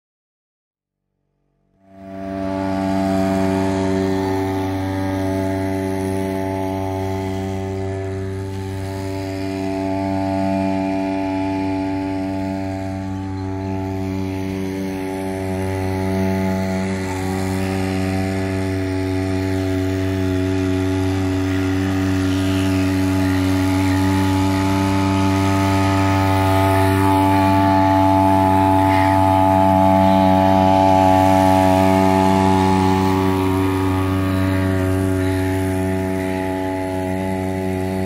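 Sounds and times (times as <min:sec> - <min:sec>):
outboard motor buzzing: 0:01.6 - 0:38.0.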